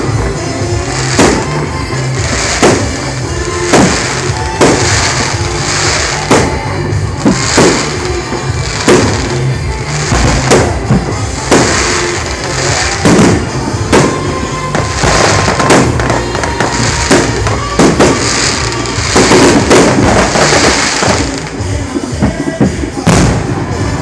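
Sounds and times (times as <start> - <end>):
crackling hiss: 0.0 - 24.0
firework shells bursting: 1.0 - 21.7.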